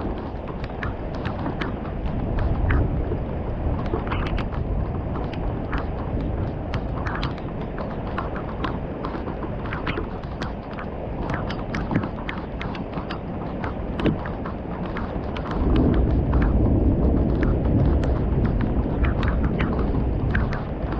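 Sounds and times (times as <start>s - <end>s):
thunder rumbling: 0.0s - 12.1s, 13.8s - 20.9s
rain falling: 0.0s - 20.9s
raindrops knocking on hard surface: 0.0s - 20.9s.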